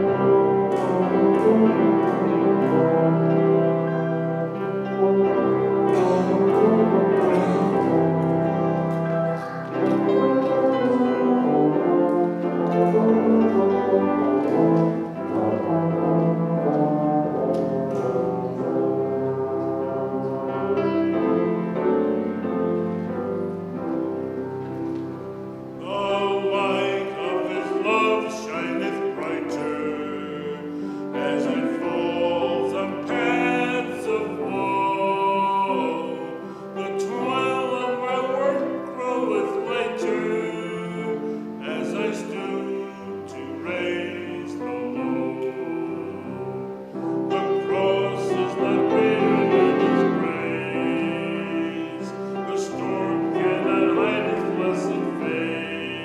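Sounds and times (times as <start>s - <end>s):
person singing with vibrato: 0.0s - 19.5s, 25.4s - 56.0s
organ chords: 0.0s - 56.0s.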